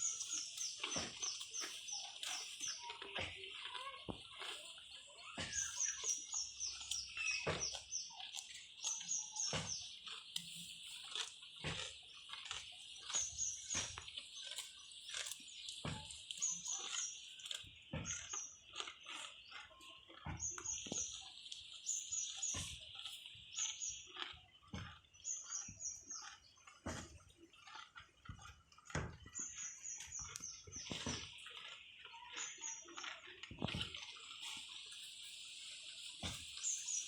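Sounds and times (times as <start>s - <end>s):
animal tearing and chewing grass: 0.0s - 37.0s
birds chirping: 0.0s - 37.0s.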